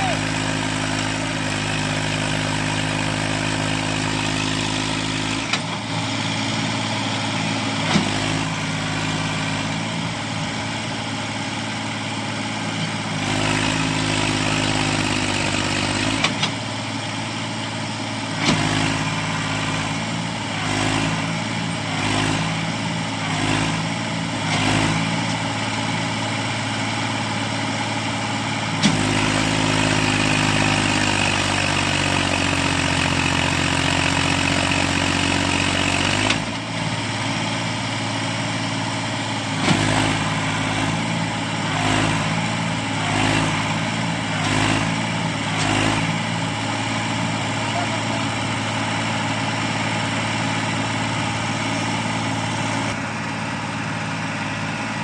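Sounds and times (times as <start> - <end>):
tractor diesel engine labouring: 0.0 - 55.0.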